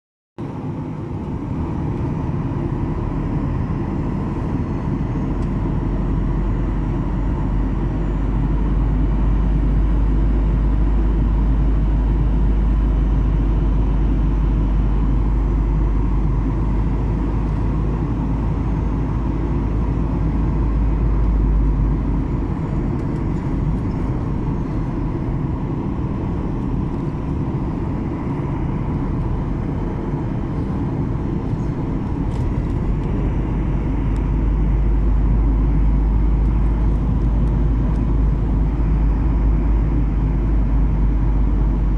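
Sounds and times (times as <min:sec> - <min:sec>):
airliner cabin engine rumble: 0:00.4 - 0:41.9
very deep rumble: 0:00.4 - 0:41.9.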